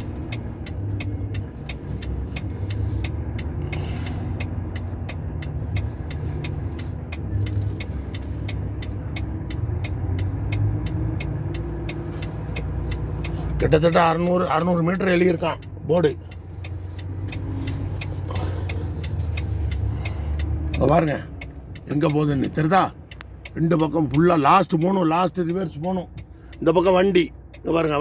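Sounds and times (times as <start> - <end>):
truck diesel engine running: 0.0 - 28.0.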